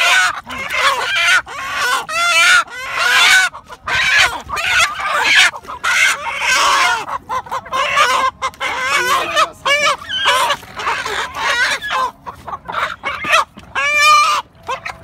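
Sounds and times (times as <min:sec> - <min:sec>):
chickens squawking: 0:00.0 - 0:15.0.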